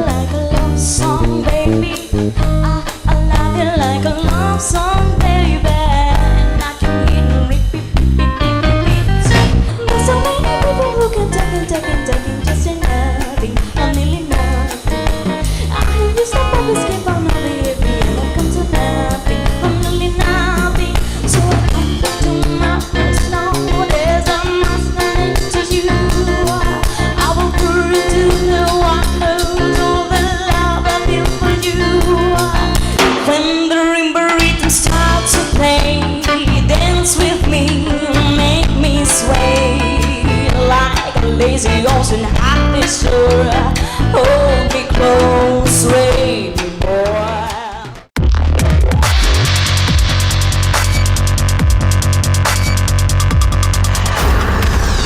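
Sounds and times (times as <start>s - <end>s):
person singing: 0.0s - 7.8s, 9.3s - 48.0s
live band playing lounge music: 0.0s - 48.1s.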